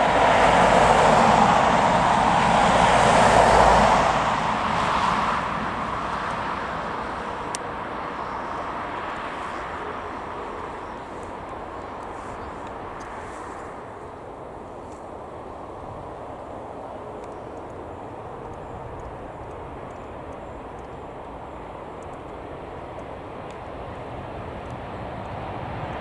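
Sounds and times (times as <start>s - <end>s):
jet airliner engines rushing: 0.0s - 26.0s.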